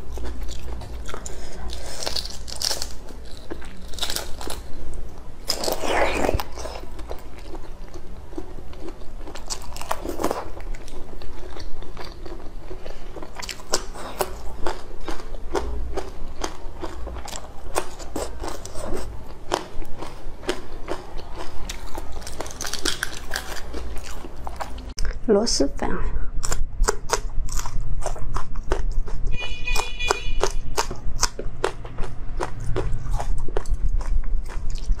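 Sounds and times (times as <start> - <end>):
biting and chewing: 0.0 - 25.1, 26.4 - 35.0.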